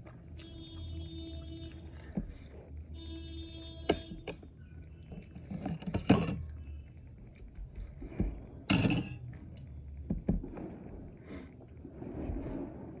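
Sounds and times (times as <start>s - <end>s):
chewing with mouth clicks: 0.0s - 11.9s.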